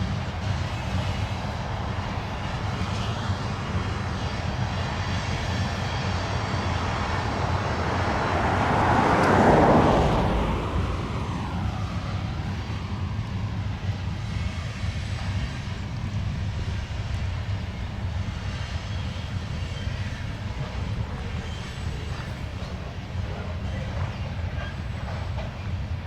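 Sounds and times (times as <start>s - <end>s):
freight train rumbling past: 0.0s - 26.0s
locomotive passing: 0.0s - 26.0s.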